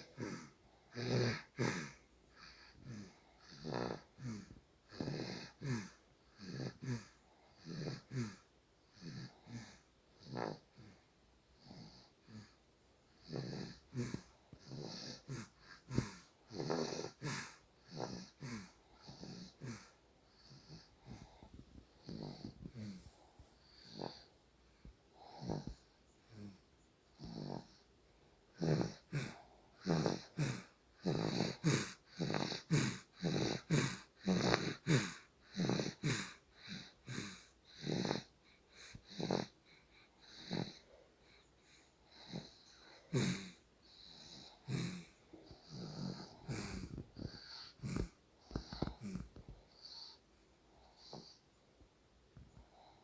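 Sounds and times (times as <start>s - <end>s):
wheezy snoring and snuffling: 0.0s - 27.9s, 28.5s - 51.5s.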